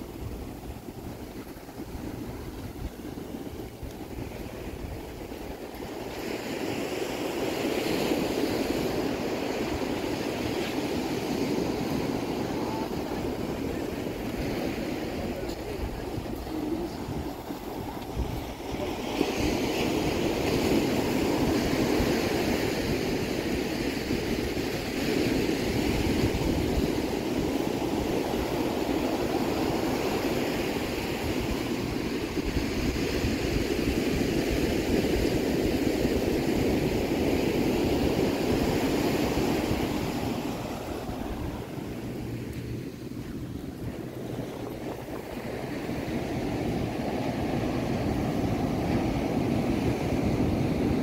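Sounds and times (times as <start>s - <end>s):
surf breaking on beach: 0.0s - 51.0s
wind buffeting microphone: 0.0s - 51.0s.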